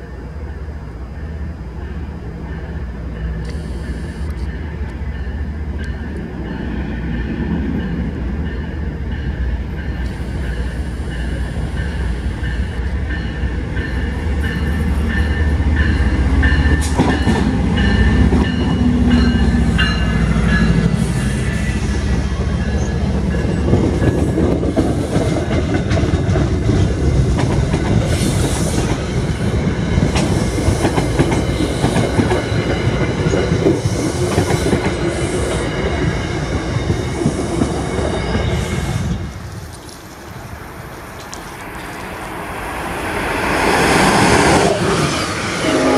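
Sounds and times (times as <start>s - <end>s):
diesel locomotive passing: 0.0s - 45.9s.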